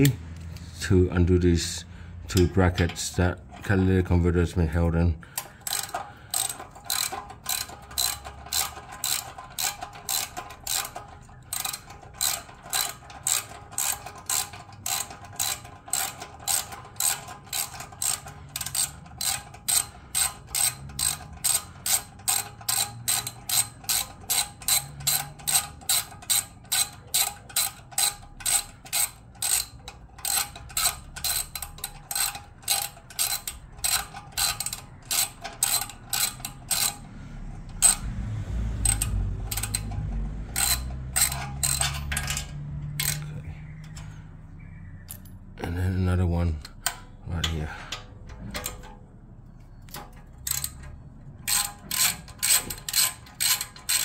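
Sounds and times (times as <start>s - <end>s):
ratchet wrench clicking: 5.3s - 44.1s, 46.6s - 48.9s, 49.8s - 54.0s.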